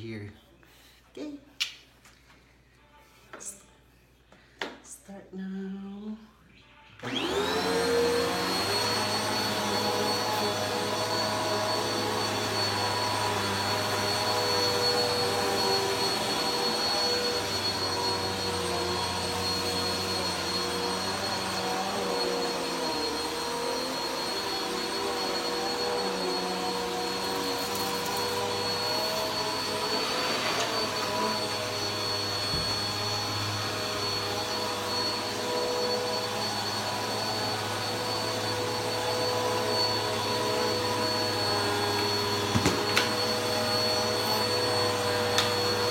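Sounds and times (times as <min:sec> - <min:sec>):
vacuum cleaner running: 0:06.9 - 0:45.9.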